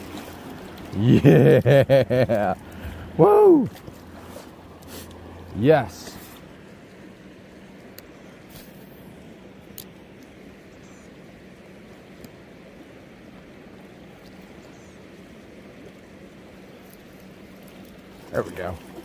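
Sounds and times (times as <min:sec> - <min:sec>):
creek water flowing: 0:00.0 - 0:19.0
faint low hum: 0:00.0 - 0:19.0.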